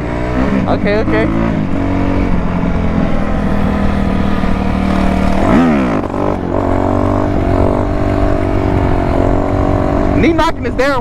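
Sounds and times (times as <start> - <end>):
dirt bike revving: 0.0 - 10.9
dirt bike engines running: 0.0 - 11.0.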